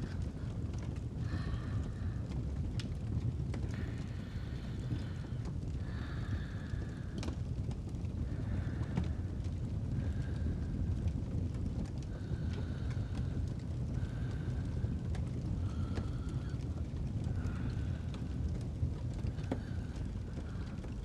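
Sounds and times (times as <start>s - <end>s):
fire crackling and popping: 0.0s - 21.0s
low fire rumble: 0.0s - 21.0s.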